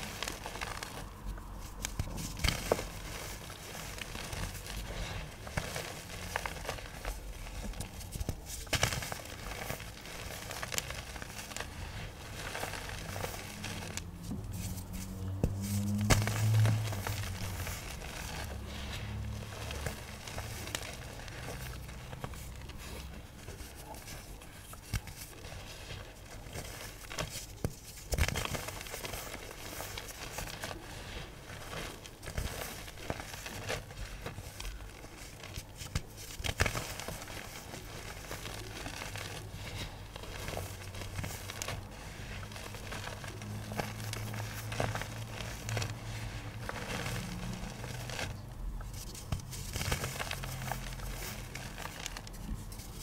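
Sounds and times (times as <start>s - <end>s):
pigment chunks crunching by hand: 0.0s - 53.0s.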